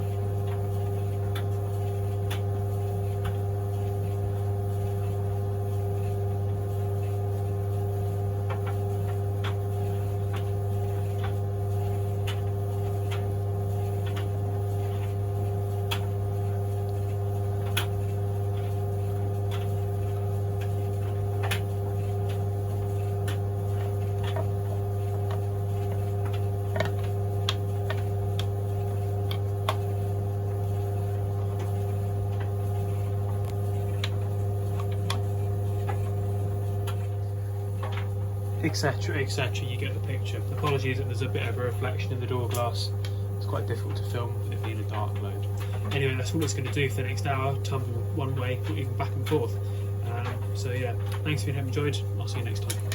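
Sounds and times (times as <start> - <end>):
tumble dryer running: 0.0 - 52.9.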